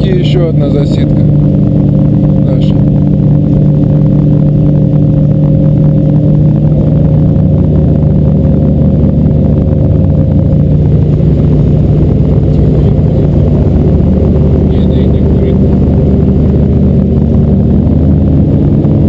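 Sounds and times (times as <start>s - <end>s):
boat motor droning: 0.0s - 19.0s.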